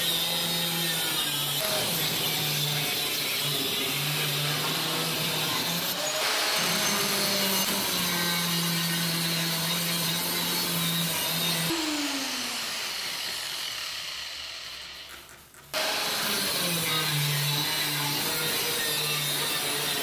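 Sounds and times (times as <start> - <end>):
angle grinder cutting steel: 0.0 - 20.0.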